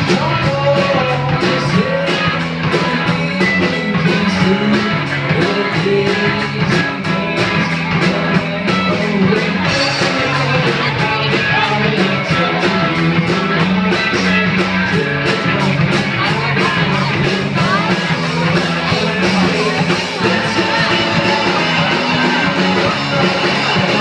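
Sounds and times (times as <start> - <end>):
live rock band playing: 0.0 - 24.0
man singing: 0.0 - 24.0.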